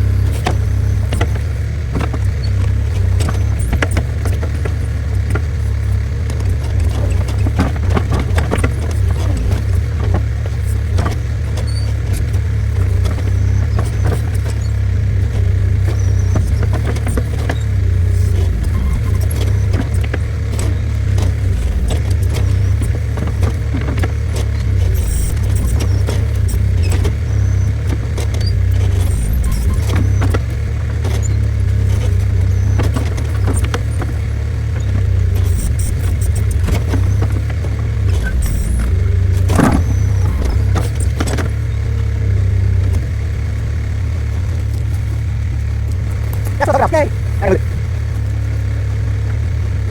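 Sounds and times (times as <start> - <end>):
skid steer engine running: 0.0 - 49.9.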